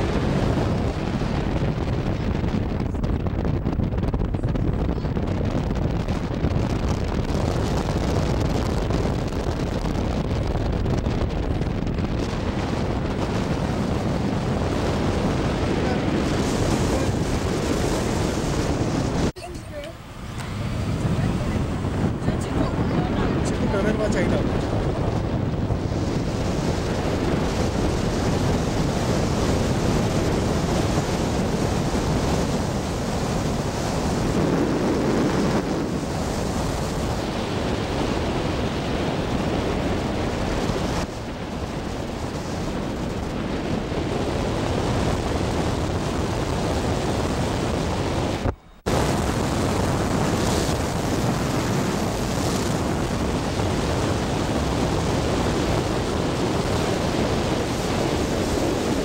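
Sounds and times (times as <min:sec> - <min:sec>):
road noise of car driving: 0:00.0 - 0:59.0
wind on microphone: 0:00.0 - 0:59.0.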